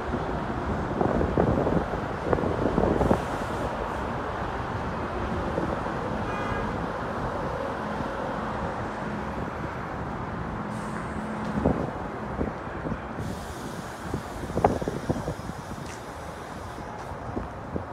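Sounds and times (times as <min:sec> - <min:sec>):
highway traffic: 0:00.0 - 0:17.9.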